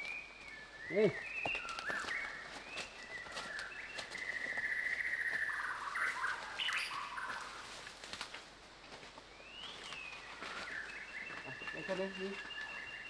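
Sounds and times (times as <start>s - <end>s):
bird singing: 0.0s - 7.7s, 9.3s - 13.0s.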